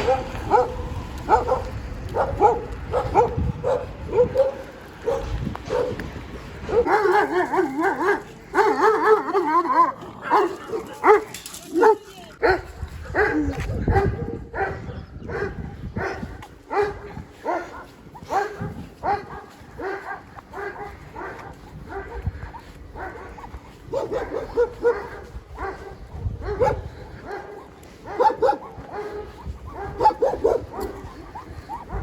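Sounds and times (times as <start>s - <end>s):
dogs whining and yelping: 0.0s - 12.4s, 16.2s - 32.0s.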